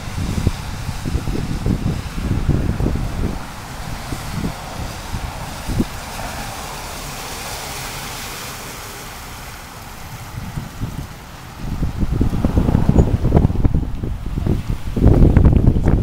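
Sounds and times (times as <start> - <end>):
tyres sloshing through water: 0.0 - 15.0
wind rumbling on microphone: 0.0 - 16.0.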